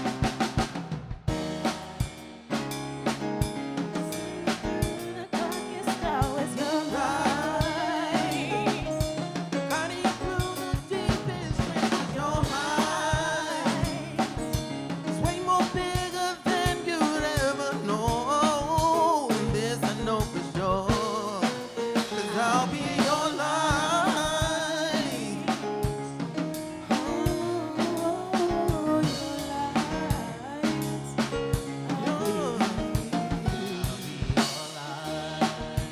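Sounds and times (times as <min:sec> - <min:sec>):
drum kit beat: 0:00.0 - 0:35.9
live band playing: 0:00.0 - 0:35.9.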